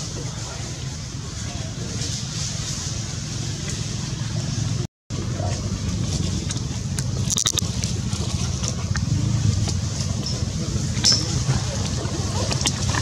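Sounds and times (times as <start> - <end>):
low outdoor rumble with hiss: 0.0 - 13.0.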